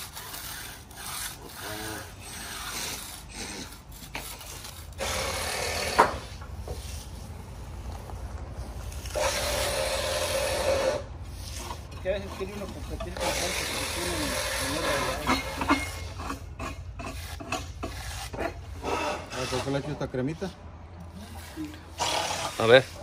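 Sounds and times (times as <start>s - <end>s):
hand float rubbing wet concrete: 0.0s - 23.0s.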